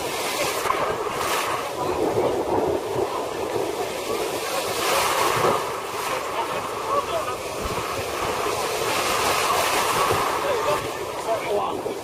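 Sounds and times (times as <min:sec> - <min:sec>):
stormy sea surf breaking: 0:00.0 - 0:12.0
wave crashing: 0:00.0 - 0:12.0
wind buffeting microphone: 0:00.0 - 0:12.0.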